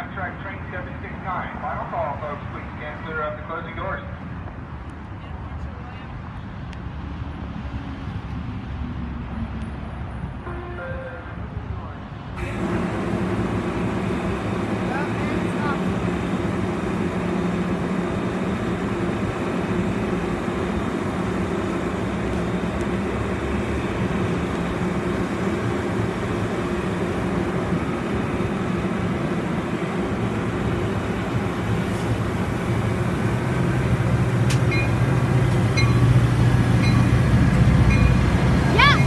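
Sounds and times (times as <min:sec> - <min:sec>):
train diesel rumble: 0:00.0 - 0:06.2, 0:10.3 - 0:39.0.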